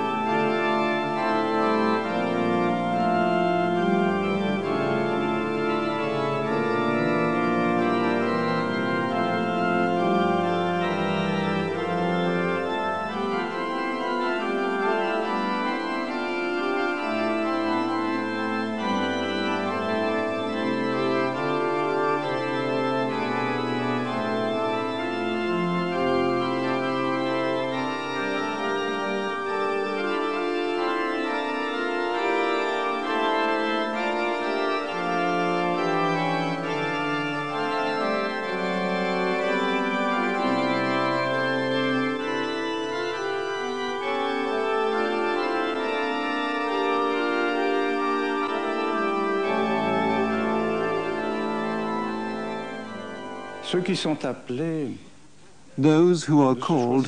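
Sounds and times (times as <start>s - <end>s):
organ playing held chords: 0.0s - 57.0s.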